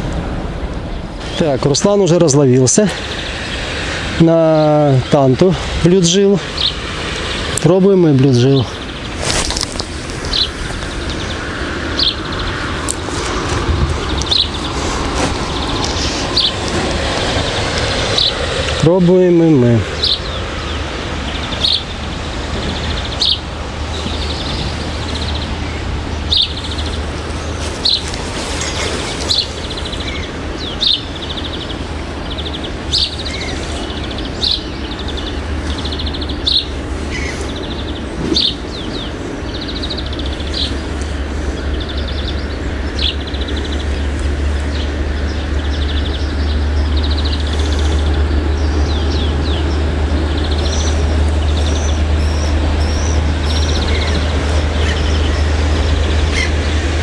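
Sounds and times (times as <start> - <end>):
songbirds chirping: 0.0 - 57.0
steady low rumble: 0.0 - 57.0.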